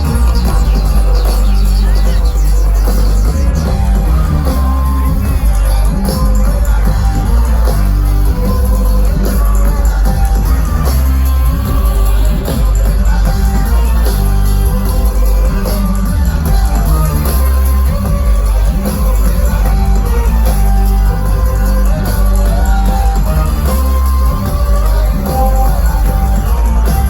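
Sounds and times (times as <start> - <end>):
crowd shouting and whooping: 0.0 - 27.0
live band music with heavy bass: 0.0 - 27.0.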